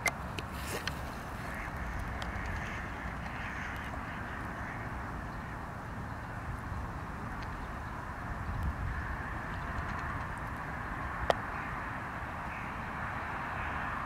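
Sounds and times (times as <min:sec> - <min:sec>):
birds calling: 0:00.0 - 0:14.0
steady background noise: 0:00.0 - 0:14.0.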